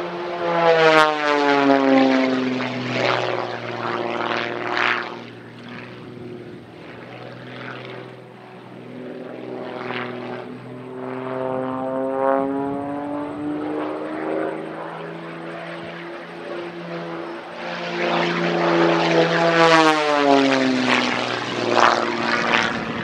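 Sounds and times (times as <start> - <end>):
propeller plane engine: 0.0 - 23.0.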